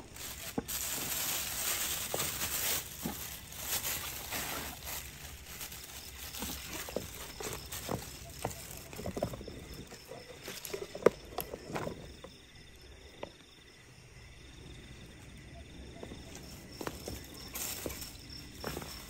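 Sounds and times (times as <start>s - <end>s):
faint high insect trill: 0.0s - 19.0s.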